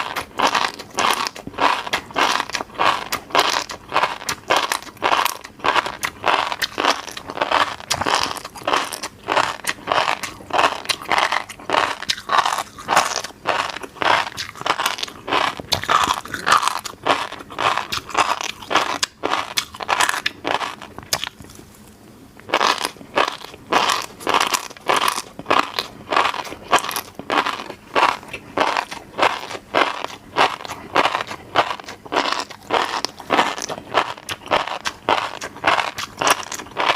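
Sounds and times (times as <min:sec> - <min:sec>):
crunchy popping and chewing: 0:00.0 - 0:36.9.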